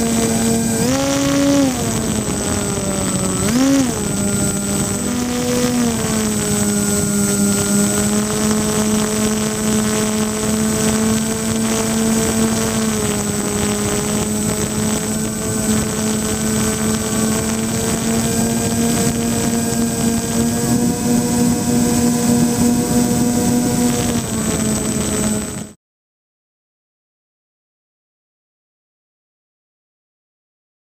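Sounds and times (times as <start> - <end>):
electric motors droning: 0.0 - 25.7.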